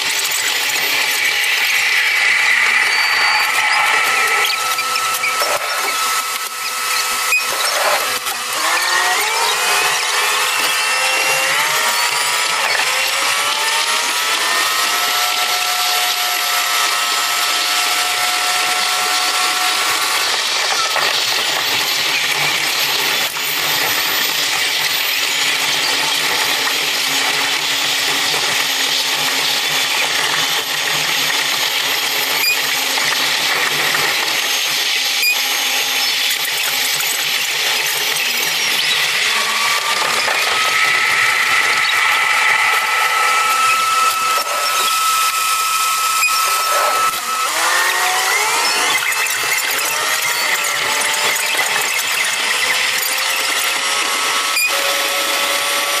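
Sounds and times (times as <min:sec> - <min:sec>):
sped-up engine whine: 0:00.0 - 0:25.2, 0:30.2 - 0:56.0.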